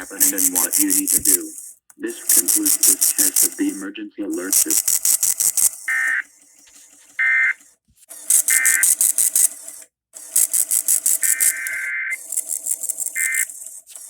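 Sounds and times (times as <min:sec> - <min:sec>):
screechy digital data tones: 0:00.0 - 0:03.8, 0:04.4 - 0:07.6, 0:08.3 - 0:09.6, 0:10.4 - 0:14.0
rhythmic buzzing: 0:00.0 - 0:14.0.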